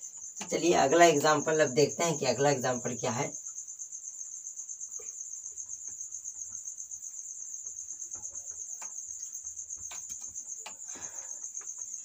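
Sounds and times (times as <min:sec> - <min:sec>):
insect chirping trill: 0:00.0 - 0:12.0.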